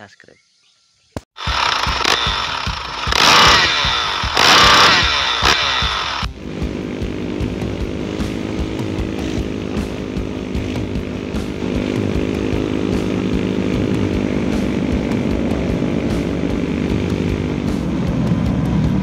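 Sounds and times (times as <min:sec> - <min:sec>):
scooter engine running: 0:01.4 - 0:19.0.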